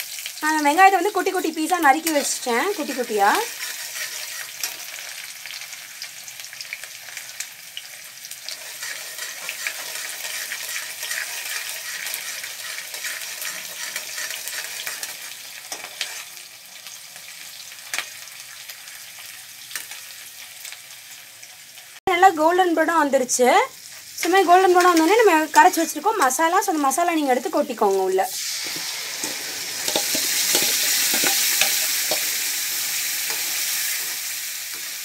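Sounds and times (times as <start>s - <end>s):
onions sizzling in oil: 0.0s - 35.0s.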